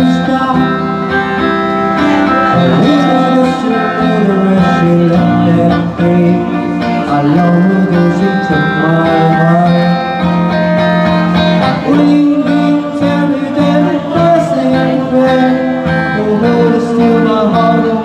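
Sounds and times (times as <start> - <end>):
guitar: 0.0 - 18.0
live band playing pop song: 0.0 - 18.0.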